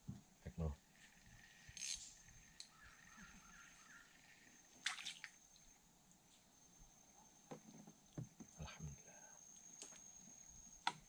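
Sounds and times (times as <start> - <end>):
high insect-like whine: 0.5 - 11.0.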